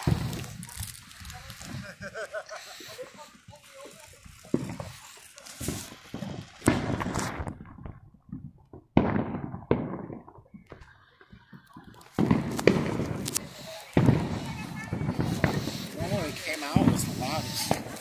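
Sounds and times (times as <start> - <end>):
fireworks banging: 0.0 - 18.0.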